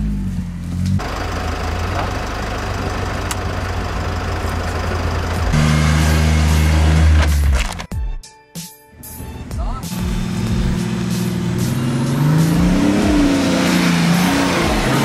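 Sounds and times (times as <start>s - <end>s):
car engine idling: 0.0s - 7.8s, 9.8s - 15.0s.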